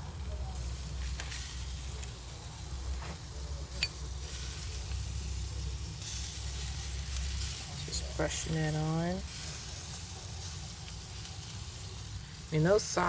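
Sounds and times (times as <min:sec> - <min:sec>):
shrimp sizzling on a grill: 0:00.0 - 0:13.0.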